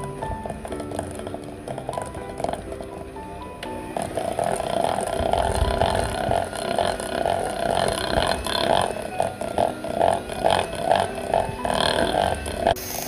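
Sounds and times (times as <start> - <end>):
electric hand mixer churning dough: 0.0 - 3.2, 3.8 - 13.0.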